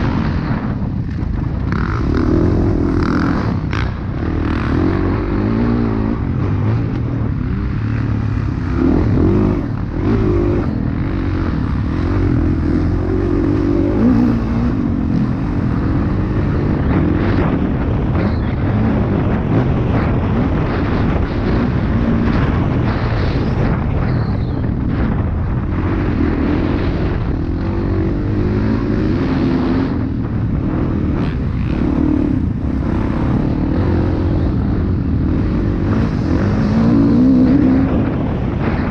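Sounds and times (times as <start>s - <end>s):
dirt bike engine racing: 0.0s - 38.9s.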